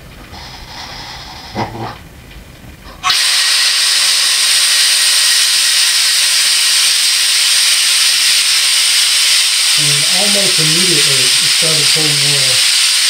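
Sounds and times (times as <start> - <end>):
compressed air hissing: 0.3 - 1.8, 3.0 - 13.0.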